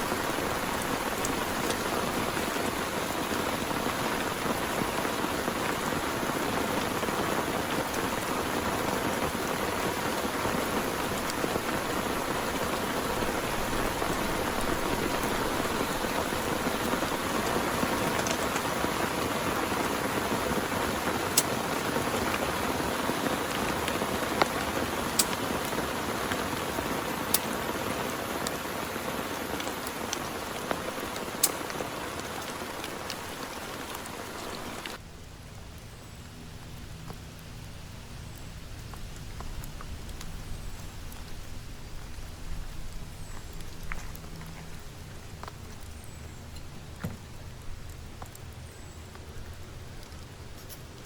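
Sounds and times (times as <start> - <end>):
heavy rain: 0.0 - 51.0
raindrop ticks: 0.0 - 51.0.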